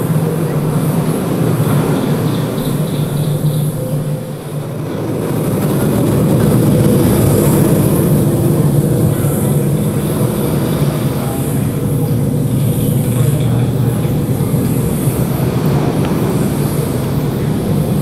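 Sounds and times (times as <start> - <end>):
underwater rumbling with hiss: 0.0 - 18.0.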